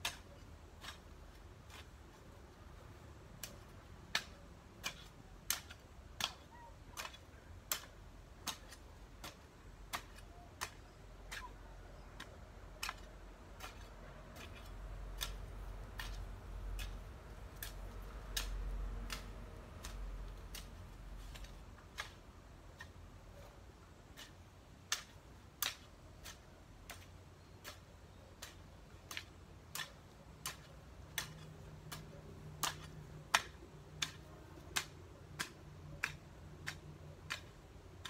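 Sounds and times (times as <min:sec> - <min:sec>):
hoe chopping into soil: 0:00.0 - 0:02.1, 0:03.4 - 0:11.6, 0:12.2 - 0:22.9, 0:24.1 - 0:27.8, 0:28.4 - 0:38.0.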